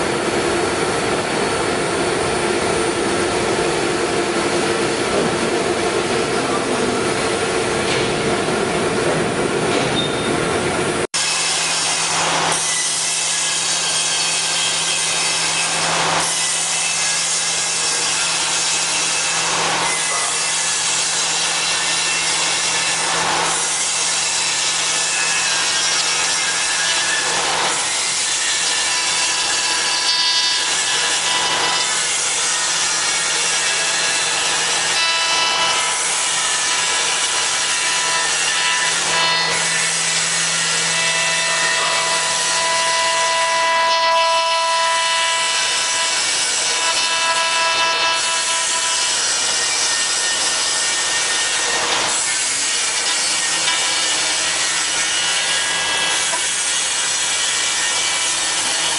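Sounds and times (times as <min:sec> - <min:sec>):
cnc router carving wood: 0:11.0 - 0:58.9.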